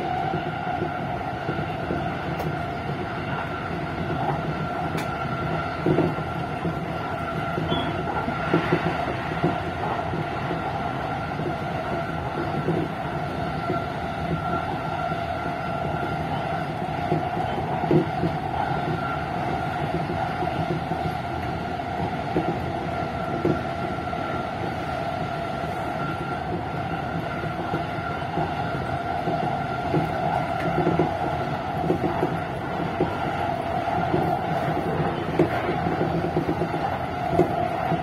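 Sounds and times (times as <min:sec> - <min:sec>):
train running hum: 0:00.0 - 0:38.0
train wheels rumbling on rail: 0:00.0 - 0:38.0.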